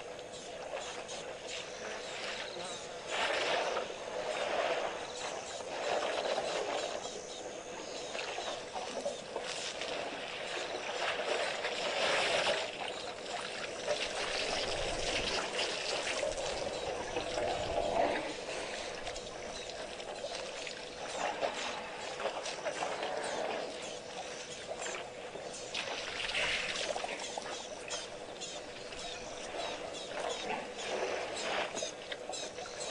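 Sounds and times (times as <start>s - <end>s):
faint steady hum: 0.0s - 32.9s
water sloshing and trickling: 0.0s - 32.9s.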